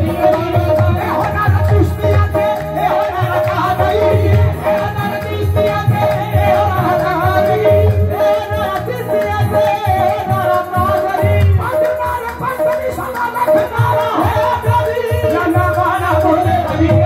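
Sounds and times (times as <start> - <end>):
dholak drum beat: 0.0 - 17.0
harmonium: 0.0 - 17.0
lead voice singing: 0.0 - 17.0.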